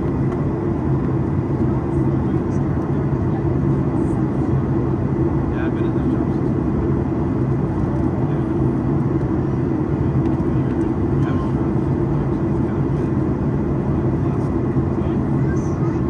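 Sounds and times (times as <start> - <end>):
jet engines low hum: 0.0 - 16.0.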